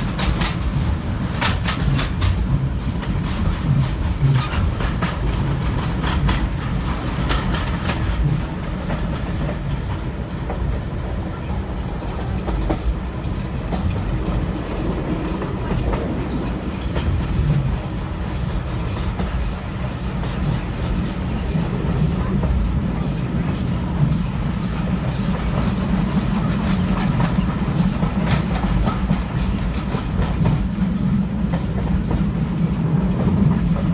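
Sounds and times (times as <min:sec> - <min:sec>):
train rumble: 0:00.0 - 0:33.9
wheels clacking over rail joints: 0:00.0 - 0:33.9.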